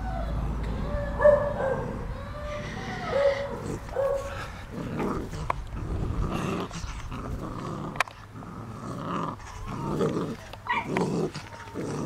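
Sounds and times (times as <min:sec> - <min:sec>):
puppy growling: 0:00.0 - 0:12.0.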